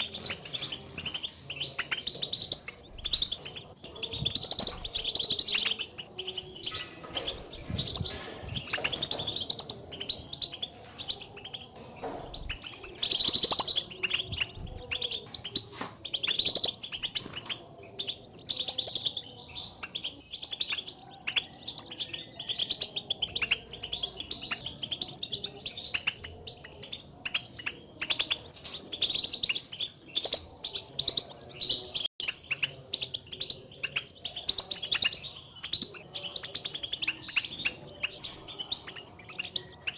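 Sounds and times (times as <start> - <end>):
goldfinch contact calls: 0.0 - 39.9.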